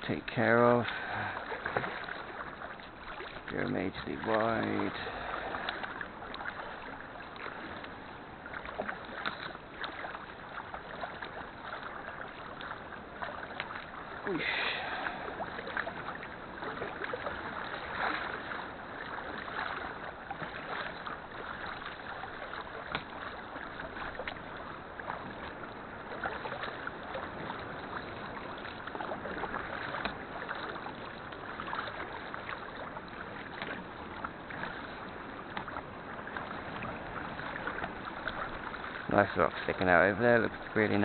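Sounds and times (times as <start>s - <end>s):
paddle blades dipping: 0.0s - 41.0s
water splashing against hull: 0.0s - 41.0s.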